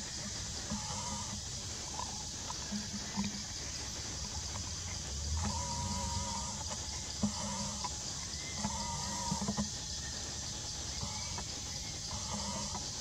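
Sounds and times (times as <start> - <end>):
high-pitched forest hiss: 0.0 - 13.0.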